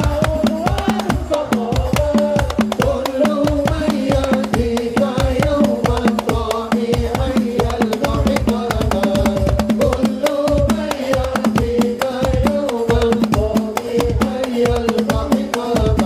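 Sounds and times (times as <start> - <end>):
fast hand drum percussion: 0.0 - 16.0.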